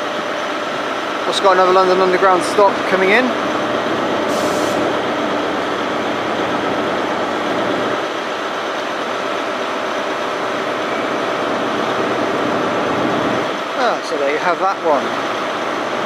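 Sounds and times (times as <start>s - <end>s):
idling trains humming and rumbling: 0.0s - 16.0s.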